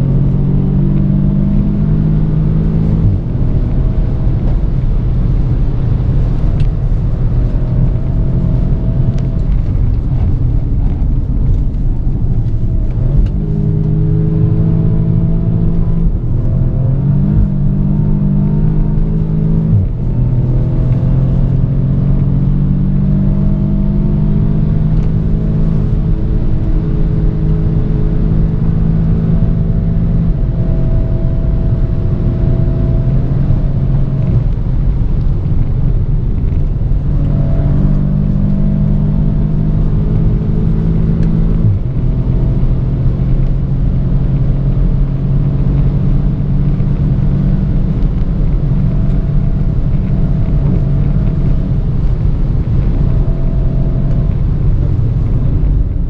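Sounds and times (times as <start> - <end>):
car engine at high revs: 0.0 - 56.0
wind noise: 0.0 - 56.0.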